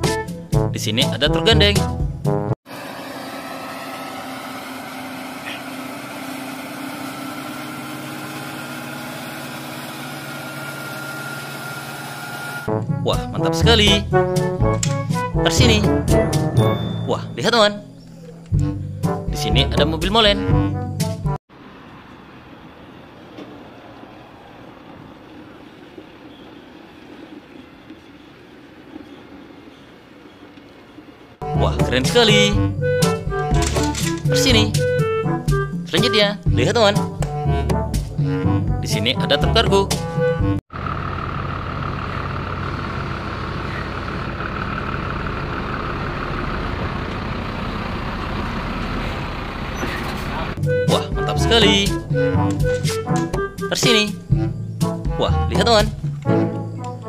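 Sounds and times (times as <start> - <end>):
diesel truck engine running: 2.0 - 57.0.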